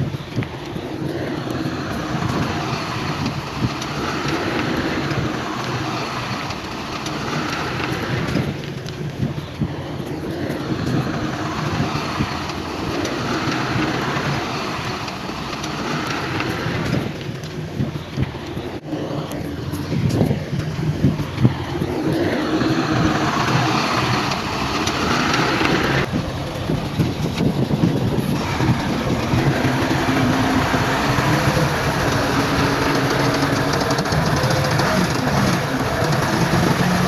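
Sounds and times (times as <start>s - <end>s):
diesel earthmoving machinery running: 0.0s - 37.0s.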